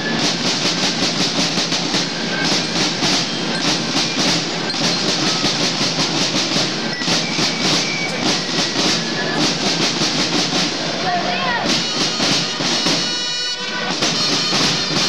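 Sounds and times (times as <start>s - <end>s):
snare drums marching cadence: 0.0s - 15.0s.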